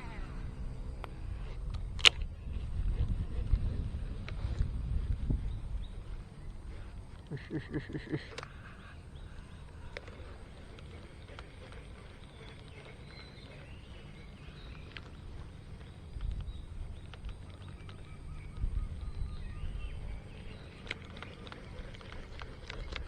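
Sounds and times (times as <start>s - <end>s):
birds chirping: 0.0s - 23.0s
wind rumble on microphone: 0.0s - 23.0s.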